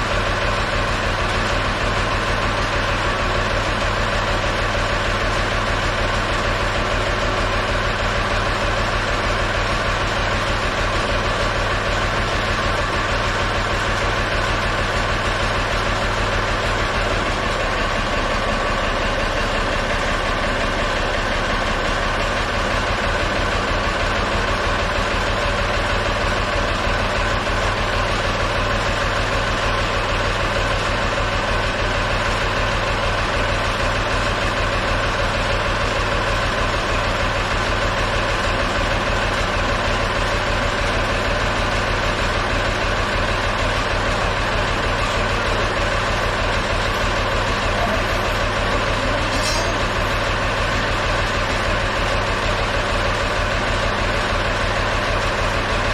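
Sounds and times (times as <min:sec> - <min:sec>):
backhoe engine running: 0:00.0 - 0:55.9.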